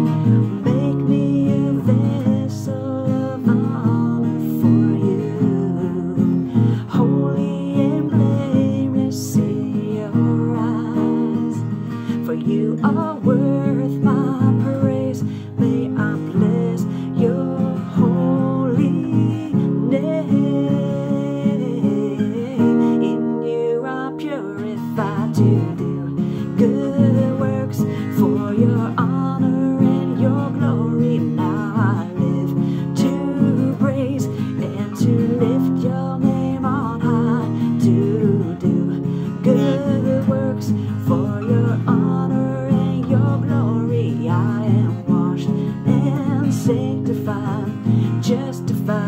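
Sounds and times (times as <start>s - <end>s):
acoustic guitar strumming: 0.0s - 49.0s
woman singing: 0.0s - 49.0s.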